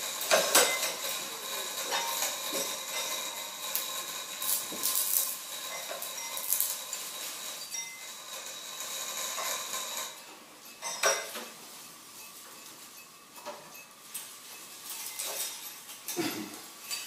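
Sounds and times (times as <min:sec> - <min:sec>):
small hard objects clinking: 0:00.0 - 0:11.6, 0:12.2 - 0:17.0.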